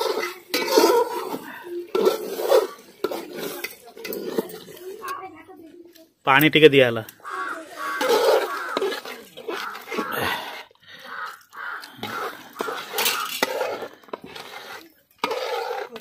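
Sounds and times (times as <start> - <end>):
metal spoon scraping a pot: 0.0 - 5.2, 7.2 - 10.1, 11.1 - 16.0.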